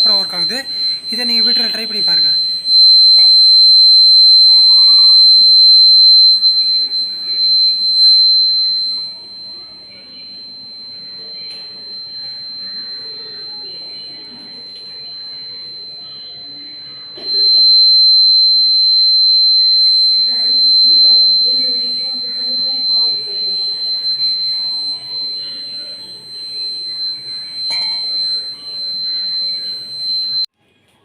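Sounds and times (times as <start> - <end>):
high-pitched buzzer tone: 0.0 - 30.5.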